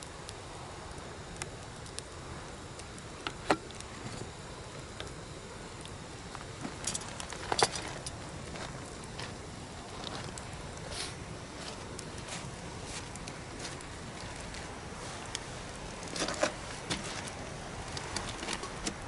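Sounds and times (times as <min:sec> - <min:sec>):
bonfire rushing: 0:00.0 - 0:19.0
fire crackles and pops: 0:00.0 - 0:19.0.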